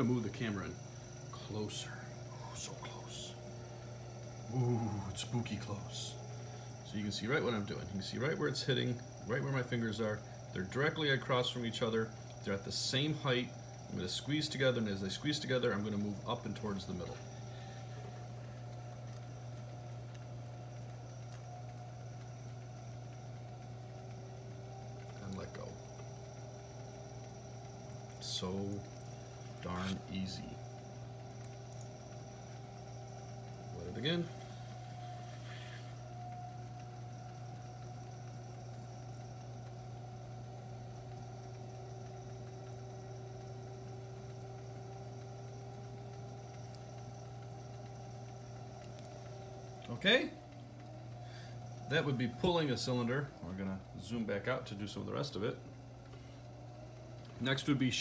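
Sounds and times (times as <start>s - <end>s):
pottery wheel motor hum: 0.0s - 58.0s.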